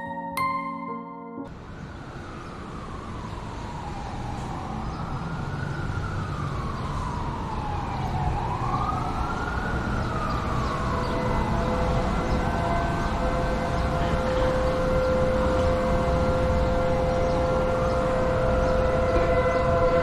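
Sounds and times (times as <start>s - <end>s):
civil defense siren wailing: 0.0s - 20.0s.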